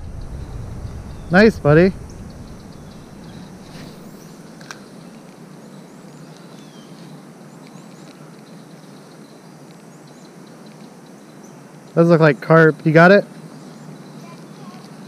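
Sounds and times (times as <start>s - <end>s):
faint high bird chirps: 0.0s - 11.6s, 13.4s - 15.0s
steady background hiss: 0.0s - 15.0s.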